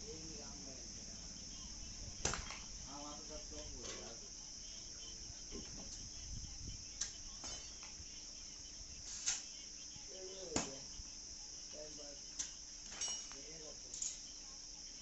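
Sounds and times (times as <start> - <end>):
high-pitched hiss or chirring: 0.0 - 15.0.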